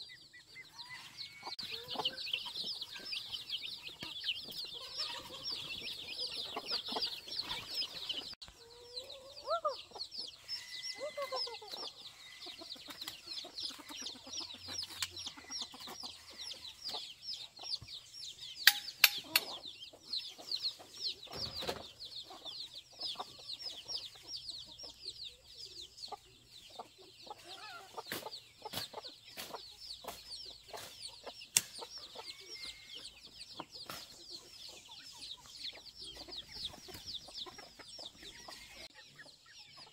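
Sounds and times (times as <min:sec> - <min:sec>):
hens clucking: 0:00.0 - 0:18.0, 0:19.0 - 0:39.9
chicks peeping: 0:00.0 - 0:39.9.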